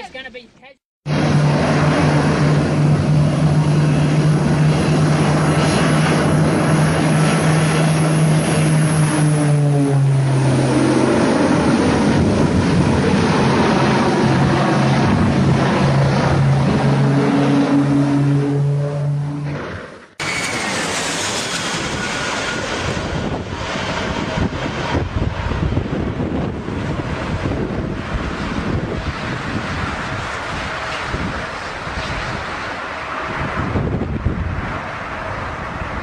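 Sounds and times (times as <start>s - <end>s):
aircraft engine drone: 1.1s - 36.0s
rushing noise: 1.1s - 36.0s.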